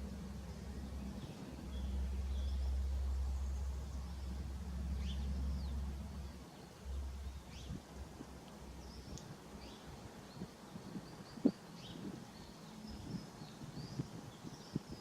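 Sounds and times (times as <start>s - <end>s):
low rumble: 0.0s - 14.3s
small birds chirping: 0.0s - 15.0s.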